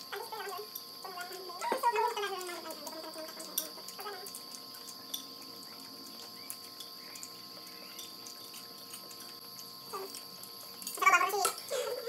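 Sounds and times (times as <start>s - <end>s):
crickets trilling: 0.0s - 12.0s
utensils clicking against plates: 0.4s - 11.8s.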